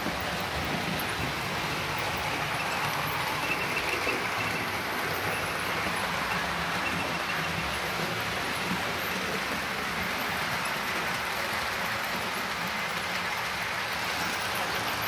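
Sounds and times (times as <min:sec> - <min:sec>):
model train wheels rumbling on rail: 0:00.0 - 0:15.0.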